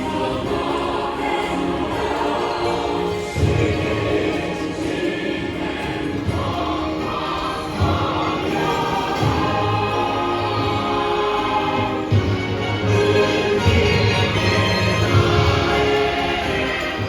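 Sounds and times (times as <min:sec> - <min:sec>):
music with choir-like voices: 0:00.0 - 0:17.0.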